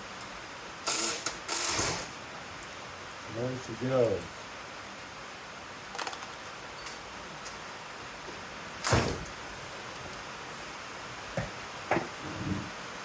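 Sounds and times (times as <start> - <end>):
heavy rain hiss: 0.0 - 13.0.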